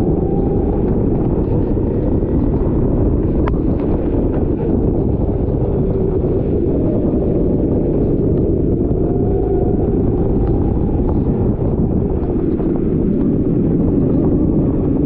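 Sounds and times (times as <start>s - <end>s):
kart engine running: 0.0s - 15.0s
wind rumble on microphone: 0.0s - 15.0s.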